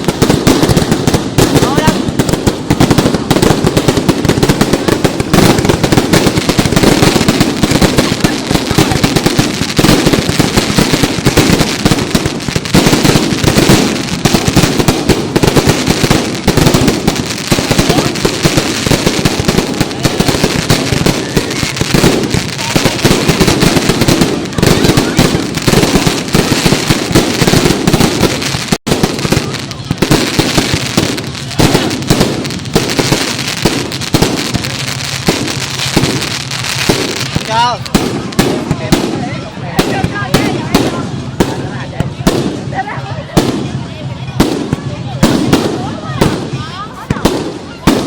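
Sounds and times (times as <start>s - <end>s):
fireworks bangs and crackle: 0.0s - 48.0s.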